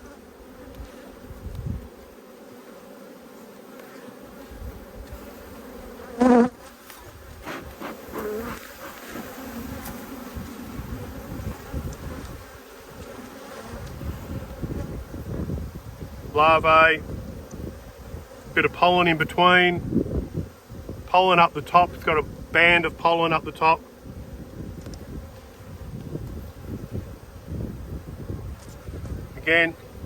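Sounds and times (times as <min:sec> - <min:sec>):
bee buzzing past microphone: 0:00.0 - 0:30.0
bees buzzing around hive: 0:00.0 - 0:30.0.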